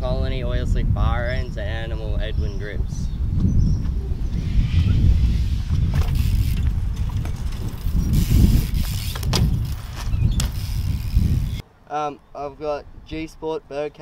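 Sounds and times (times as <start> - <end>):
wind buffeting microphone: 0.0 - 11.6.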